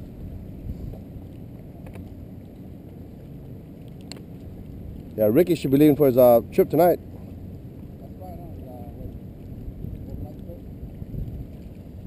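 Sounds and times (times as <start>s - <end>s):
wind buffeting microphone: 0.0s - 2.4s, 4.4s - 12.0s.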